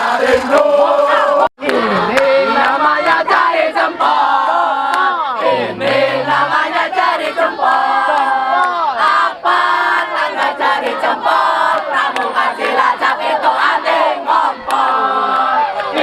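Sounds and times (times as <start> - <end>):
group chanting in unison: 0.0 - 16.0.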